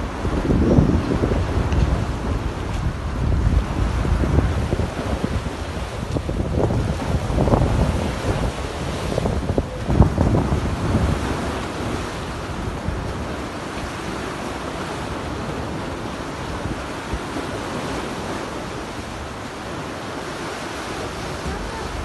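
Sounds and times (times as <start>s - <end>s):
strong wind blowing: 0.0s - 22.0s
waves washing against pontoons: 0.0s - 22.0s
wind buffeting microphone: 0.0s - 22.0s.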